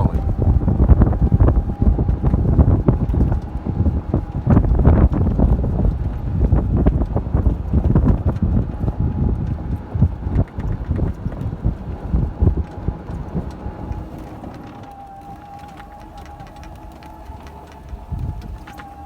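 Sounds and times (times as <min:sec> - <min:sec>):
faint steady whine: 0:00.0 - 0:19.0
wind buffeting microphone: 0:00.0 - 0:19.0.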